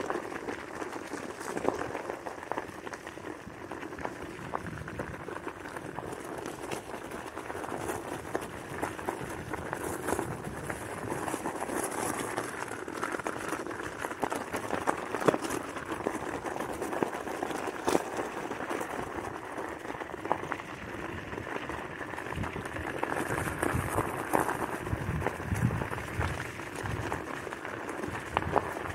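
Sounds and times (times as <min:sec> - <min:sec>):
wheels crunching over gravel: 0:00.0 - 0:28.9.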